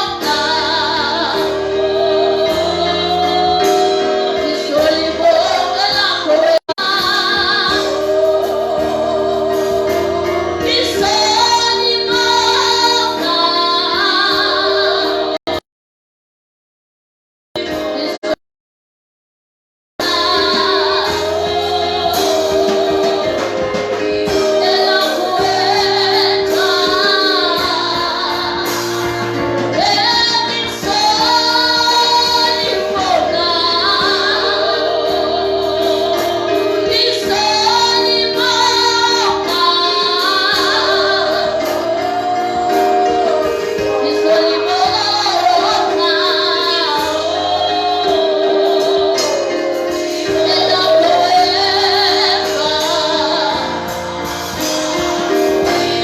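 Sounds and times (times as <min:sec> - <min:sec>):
women singing gospel: 0:00.0 - 0:15.6, 0:20.0 - 0:56.0.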